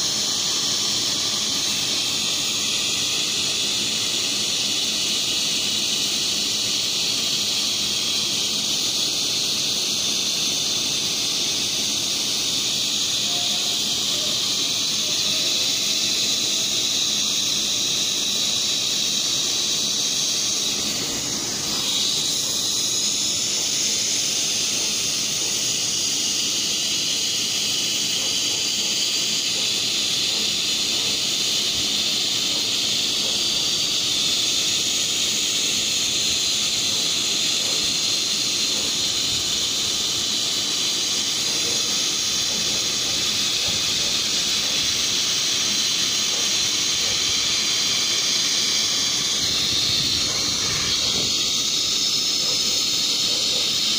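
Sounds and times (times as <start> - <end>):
hot-air welding gun hissing: 0.0 - 53.9.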